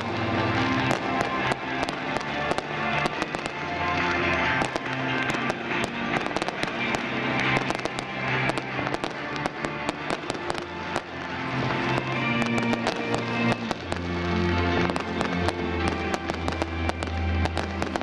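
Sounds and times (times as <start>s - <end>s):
fireworks bangs and crackles: 0.0s - 18.0s
music playing: 0.0s - 18.0s.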